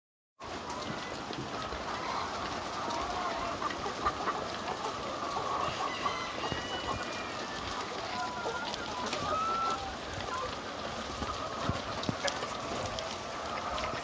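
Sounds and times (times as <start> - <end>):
chickens clucking and cheeping: 0.4 - 14.0.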